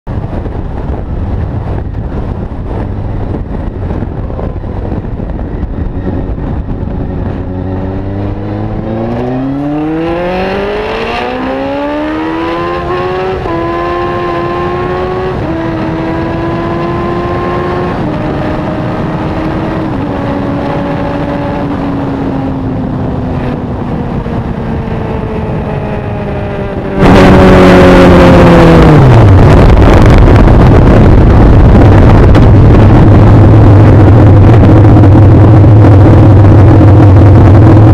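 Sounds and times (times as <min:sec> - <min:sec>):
loud rushing noise: 0:00.1 - 0:37.9
motorcycle engine shifting gears: 0:00.7 - 0:37.9.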